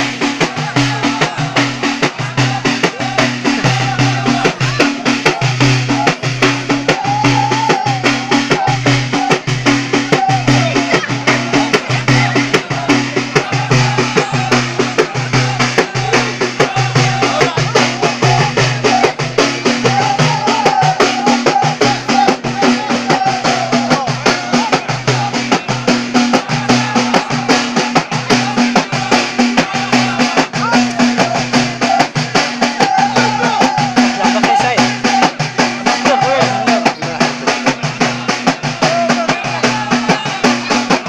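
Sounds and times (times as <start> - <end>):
fast hand-drumming: 0.0 - 41.0
men singing in chorus: 0.0 - 41.0.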